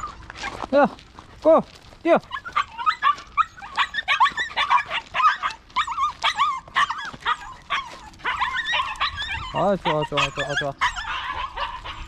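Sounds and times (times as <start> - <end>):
dog whimpering and yipping: 0.0 - 0.8, 2.3 - 12.0.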